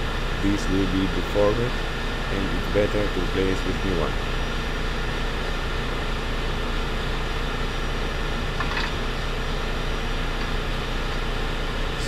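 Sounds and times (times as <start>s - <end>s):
engine room machinery hum: 0.0s - 12.0s.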